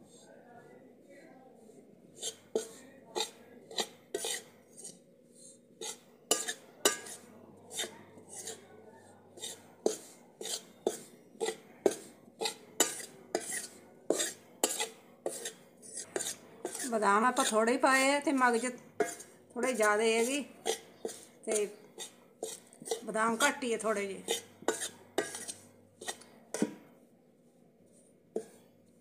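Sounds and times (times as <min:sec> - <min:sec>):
spoon scraping metal pan: 0:02.1 - 0:27.0, 0:27.9 - 0:29.0.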